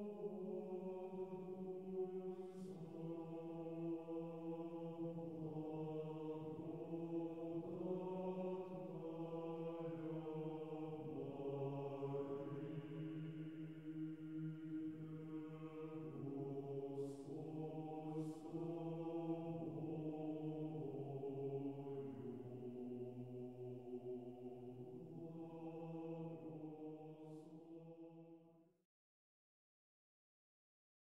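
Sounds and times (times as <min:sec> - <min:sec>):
choral chanting: 0:00.0 - 0:28.6.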